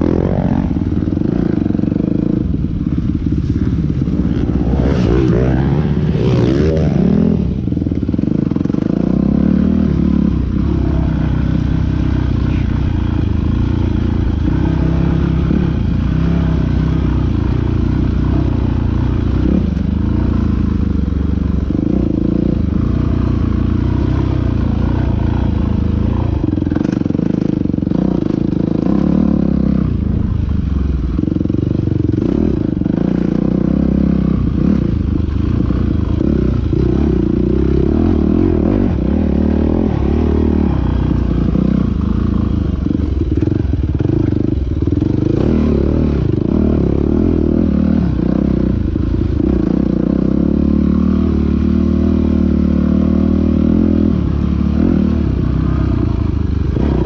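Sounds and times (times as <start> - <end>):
dirt bike engine revving: 0.0 - 30.3, 31.1 - 57.0.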